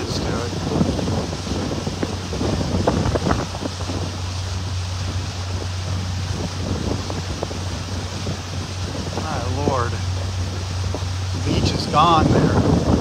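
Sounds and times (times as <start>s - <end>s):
boat motor humming: 0.0s - 13.0s
water rushing: 0.0s - 13.0s
wind buffeting microphone: 0.0s - 13.0s.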